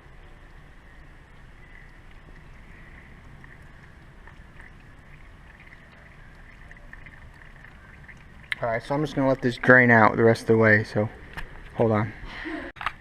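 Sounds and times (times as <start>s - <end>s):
oil dripping into a pan: 0.0s - 11.7s
faint background noise: 0.0s - 13.0s.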